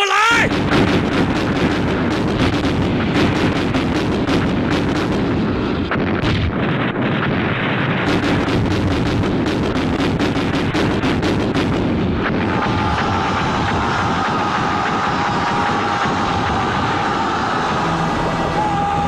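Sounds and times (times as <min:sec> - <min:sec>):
field cannons firing: 0:00.4 - 0:17.8
steady rumble: 0:00.5 - 0:19.0.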